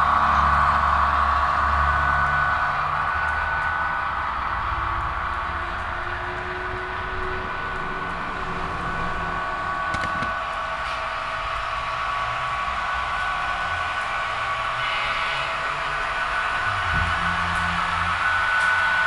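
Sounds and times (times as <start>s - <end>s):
high whine: 0.0s - 19.0s
model train rolling on track: 0.0s - 19.0s.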